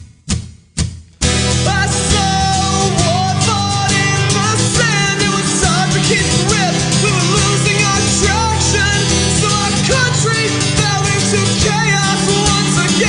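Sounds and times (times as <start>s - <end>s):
rock band playing: 1.2s - 13.0s.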